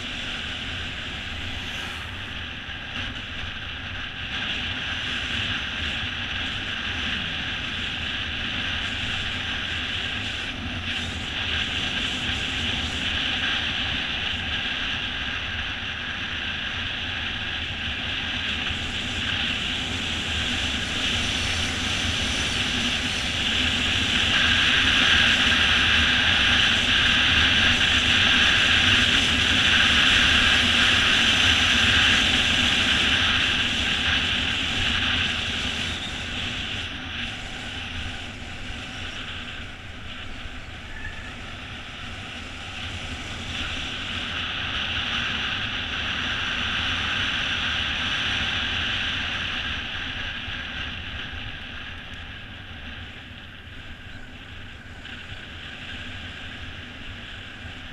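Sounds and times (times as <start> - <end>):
bike tyres rolling on asphalt: 0.0 - 57.9
wind rushing over microphone: 0.0 - 57.9.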